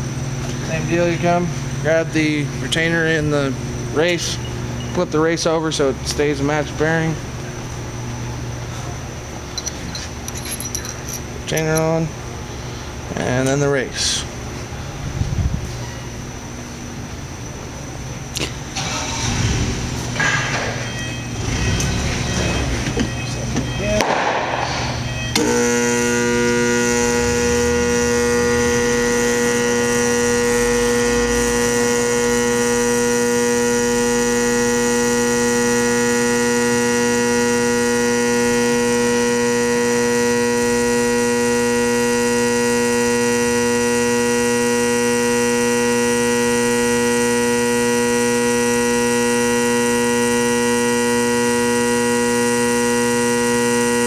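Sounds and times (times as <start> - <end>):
loud electrical hum: 0.0 - 54.0.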